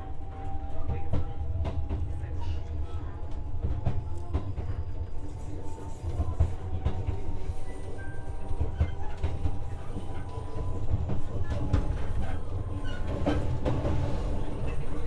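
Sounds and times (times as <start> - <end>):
train cabin rumble: 0.5 - 15.0.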